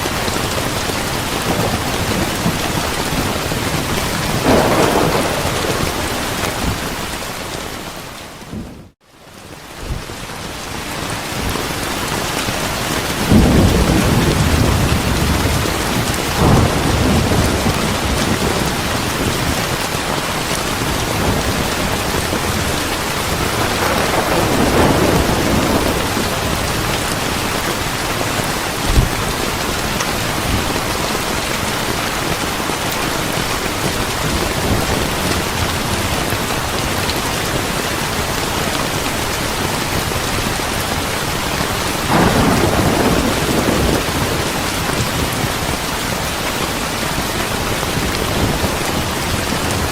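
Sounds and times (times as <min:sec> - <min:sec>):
thunder rumbling: 0:00.0 - 0:09.0, 0:12.8 - 0:41.0, 0:41.6 - 0:49.9
steady rain falling: 0:00.0 - 0:49.9.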